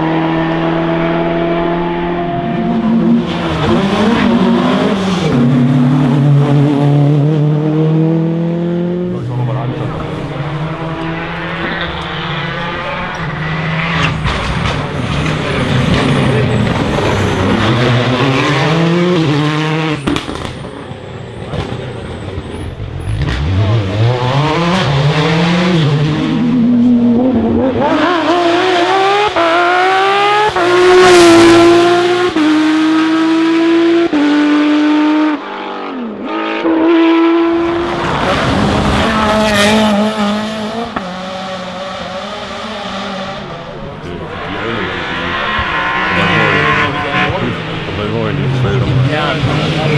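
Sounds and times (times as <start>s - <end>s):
car engine climbing through gears: 0.0s - 49.9s
rally cars passing at speed: 0.0s - 49.9s.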